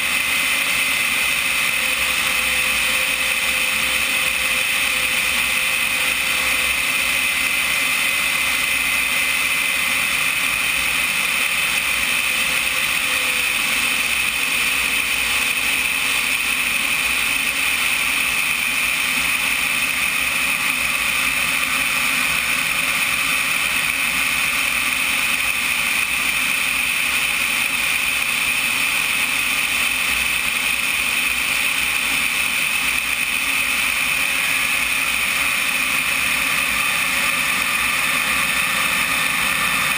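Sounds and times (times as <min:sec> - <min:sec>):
jet turbine high-pitched whine: 0:00.0 - 0:39.9.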